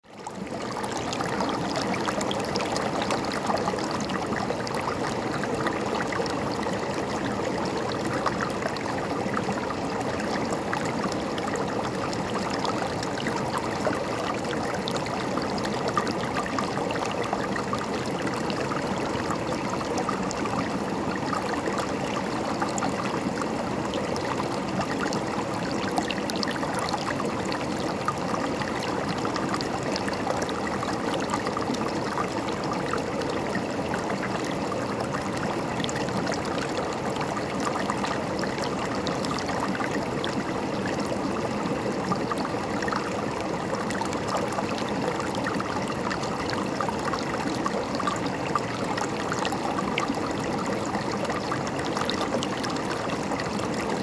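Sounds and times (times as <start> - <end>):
river water flowing: 0.2 - 54.0.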